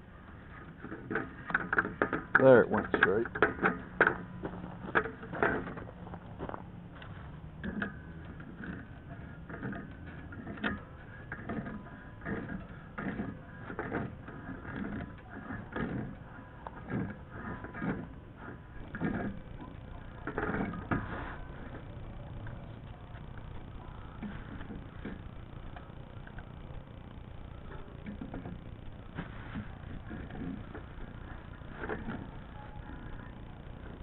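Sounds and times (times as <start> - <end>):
pipe fitting clicking and scraping: 0.2 - 6.4, 7.5 - 26.5, 27.7 - 33.2.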